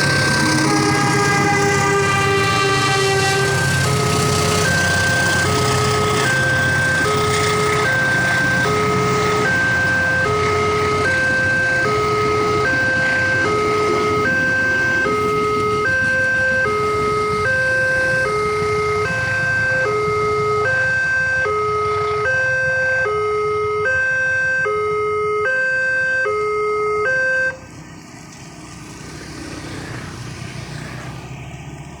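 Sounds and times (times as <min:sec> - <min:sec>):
level crossing two-tone alarm: 0:00.0 - 0:27.6.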